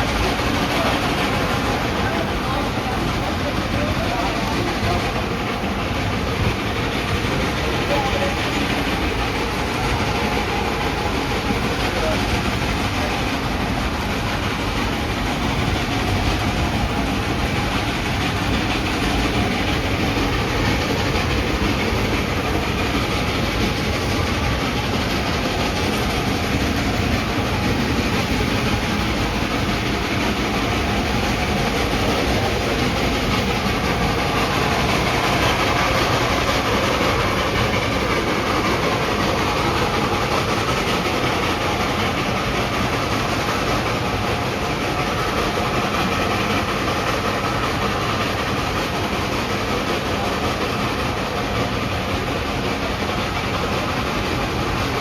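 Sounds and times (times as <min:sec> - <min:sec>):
train running on track: 0:00.0 - 0:55.0.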